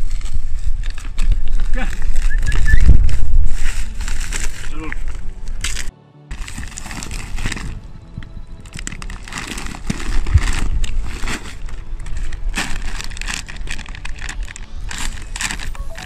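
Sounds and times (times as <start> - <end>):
plastic packaging crinkling: 0.0 - 7.9, 8.6 - 16.0.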